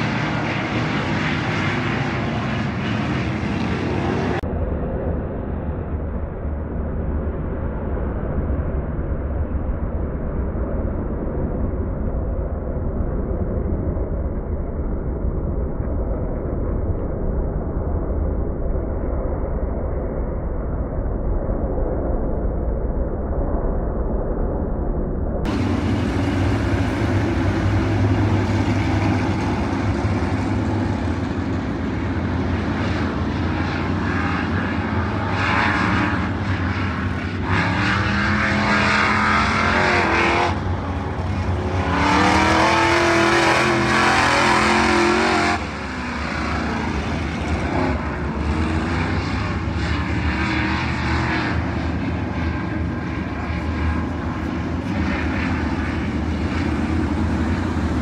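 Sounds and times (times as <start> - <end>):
race car engines: 0.0 - 17.6, 25.4 - 58.0.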